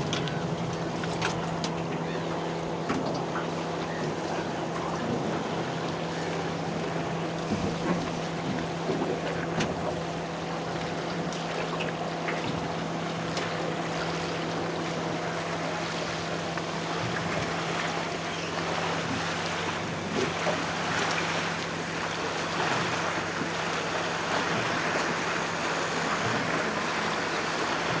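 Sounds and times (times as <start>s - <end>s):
boat motor humming: 0.0s - 28.0s
wind and water noise: 0.0s - 28.0s.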